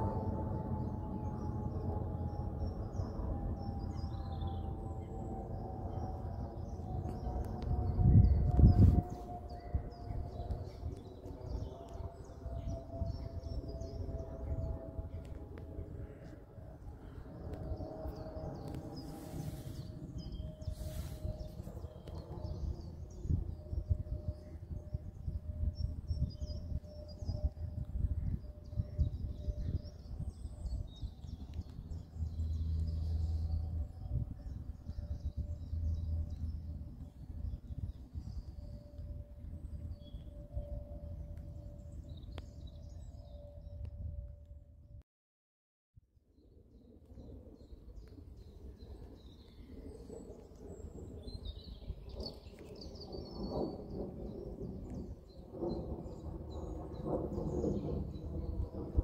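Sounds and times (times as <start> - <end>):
distant jet airliner drone: 0.0 - 45.0, 46.4 - 59.0
wind rumbling on microphone: 0.0 - 45.0, 46.0 - 59.0.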